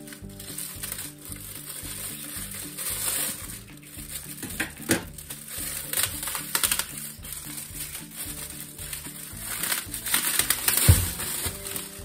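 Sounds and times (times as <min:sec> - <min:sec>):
plastic wrapping rustling: 0:00.0 - 0:12.0
shears snipping: 0:00.0 - 0:12.0
soft background music: 0:00.0 - 0:12.0.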